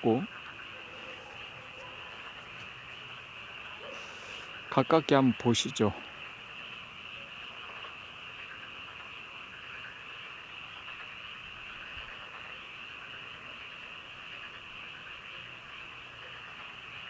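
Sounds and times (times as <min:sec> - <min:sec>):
frogs trilling: 0:00.0 - 0:17.0.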